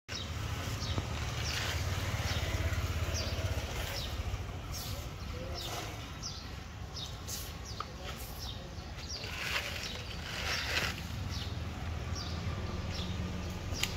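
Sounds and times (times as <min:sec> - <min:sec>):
small birds chirping: 0:00.1 - 0:13.9.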